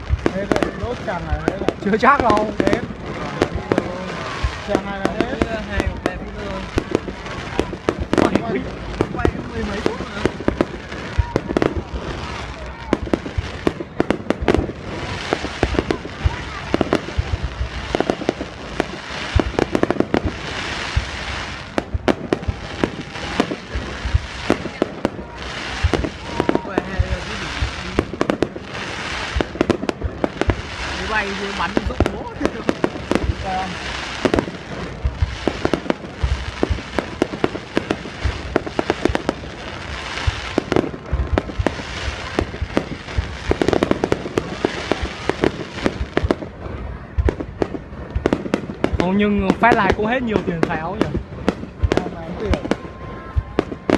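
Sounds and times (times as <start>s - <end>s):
fireworks bangs and cracks: 0.0s - 53.9s
fireworks crackling hiss: 0.0s - 53.9s.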